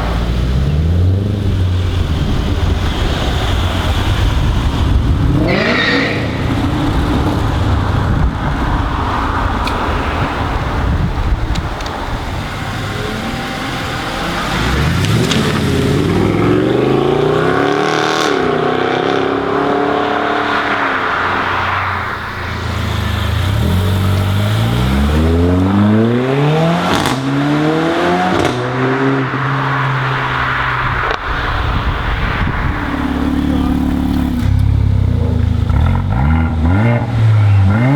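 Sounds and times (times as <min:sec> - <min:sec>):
car engine revving and accelerating: 0:00.0 - 0:37.9.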